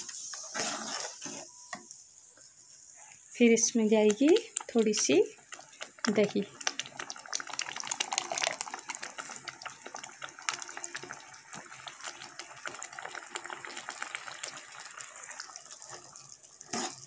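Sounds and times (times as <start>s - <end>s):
masala sizzling in oil: 0.0s - 17.0s.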